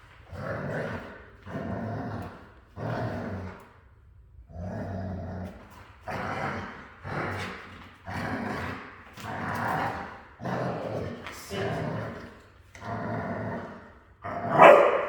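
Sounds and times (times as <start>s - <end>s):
dog growling: 0.2s - 3.8s, 4.4s - 15.0s.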